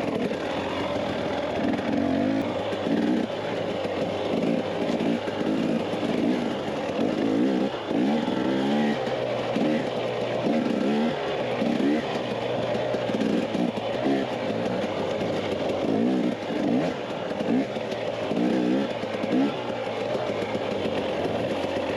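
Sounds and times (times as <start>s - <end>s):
dirt bike engine revving: 0.0s - 21.9s
wind and riding noise: 0.0s - 21.9s.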